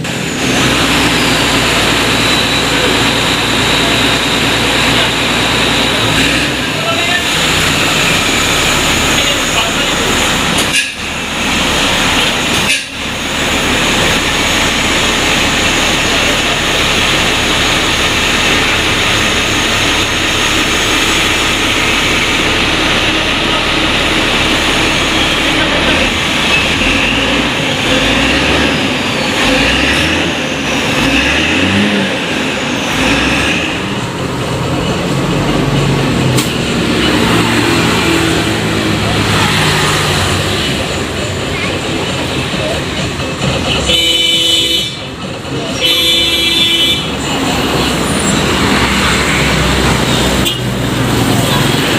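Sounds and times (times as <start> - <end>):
diesel bus engine running: 0.0 - 51.9.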